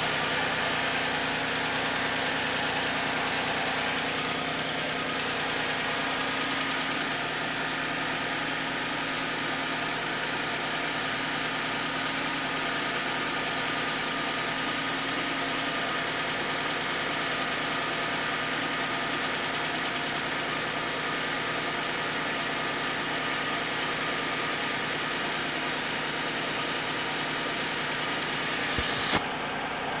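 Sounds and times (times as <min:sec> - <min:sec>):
car engine idling with knock: 0:00.0 - 0:30.0.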